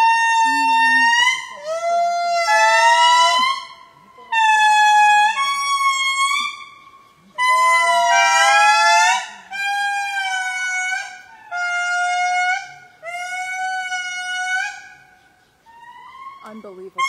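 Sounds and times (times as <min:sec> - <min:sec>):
lemurs calling: 0:00.0 - 0:17.0.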